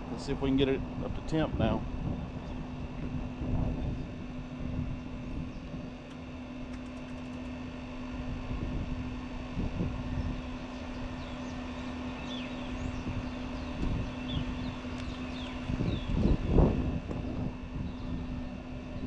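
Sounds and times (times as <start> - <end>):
grill fan motor humming: 0.0 - 19.0.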